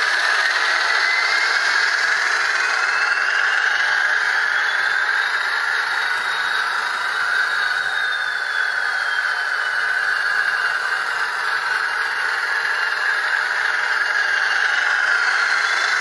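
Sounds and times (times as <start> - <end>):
faint turbo whine: 0.0 - 16.0
model train diesel engine sound: 0.0 - 16.0.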